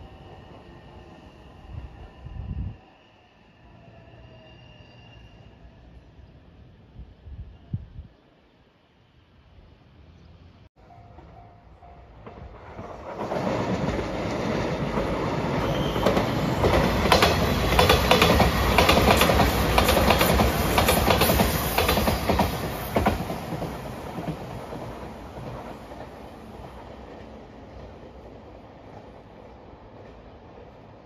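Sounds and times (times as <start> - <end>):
electric train passing: 0.0 - 7.8, 8.8 - 31.0.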